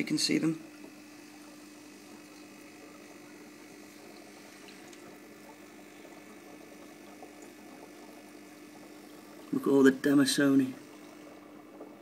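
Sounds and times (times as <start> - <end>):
aquarium filter humming: 0.0 - 12.0
faint watery hiss: 0.0 - 12.0.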